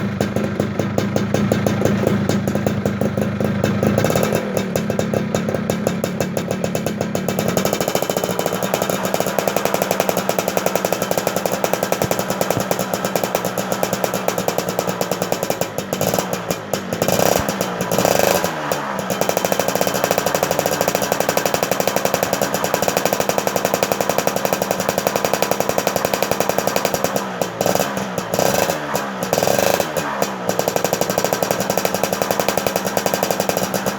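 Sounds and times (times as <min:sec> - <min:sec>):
engine running and revving: 0:00.0 - 0:33.9.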